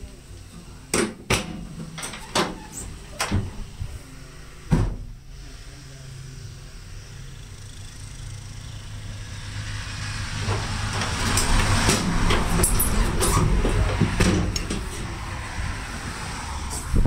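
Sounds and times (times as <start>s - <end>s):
vehicle engine humming: 1.7s - 17.0s.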